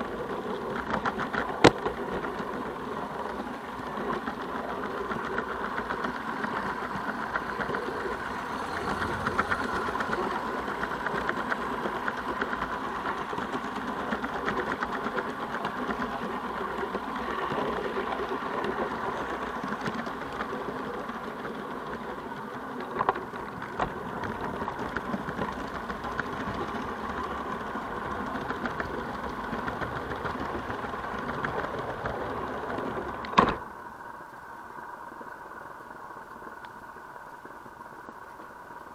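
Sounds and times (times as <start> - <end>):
model steam locomotive chuffing: 0.0 - 33.4
wheels clattering on track: 0.0 - 33.8.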